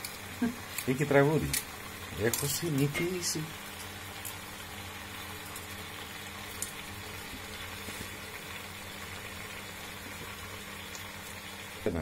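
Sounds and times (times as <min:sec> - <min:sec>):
leeks sizzling in oil: 0:00.0 - 0:12.0.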